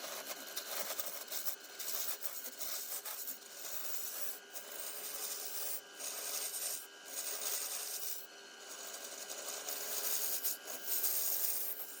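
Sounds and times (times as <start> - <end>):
faint steady whine: 0.0 - 12.0
tool scraping spinning wood: 0.0 - 12.0.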